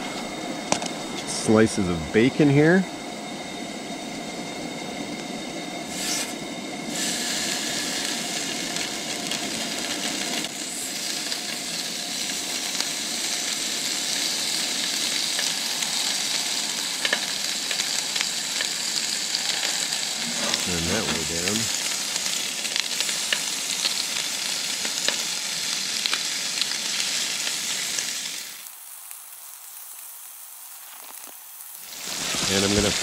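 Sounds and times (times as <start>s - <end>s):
bacon sizzling in a frying pan: 5.0s - 33.0s.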